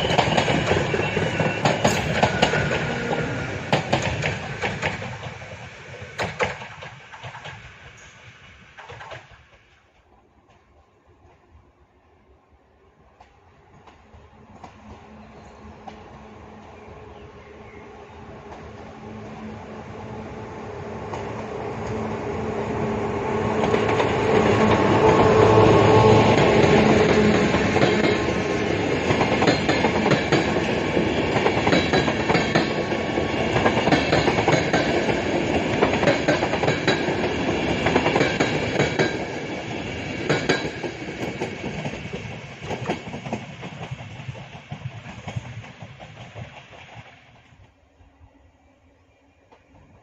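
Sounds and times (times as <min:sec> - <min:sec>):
train wheels clickety-clack: 0:00.0 - 0:11.5, 0:13.1 - 0:17.0, 0:18.4 - 0:19.4, 0:21.0 - 0:22.2, 0:23.4 - 0:47.8
electric locomotive passing: 0:00.0 - 0:50.0.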